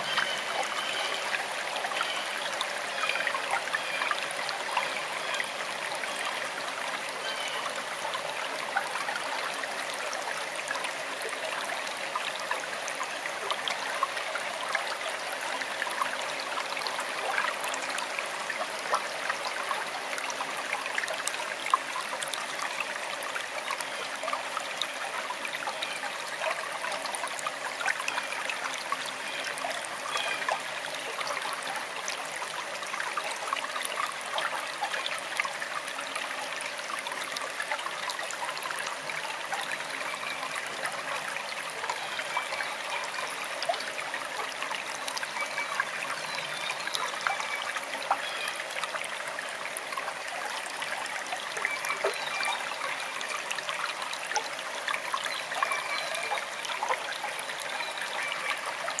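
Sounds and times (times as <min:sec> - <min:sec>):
stream babbling: 0:00.0 - 0:59.0.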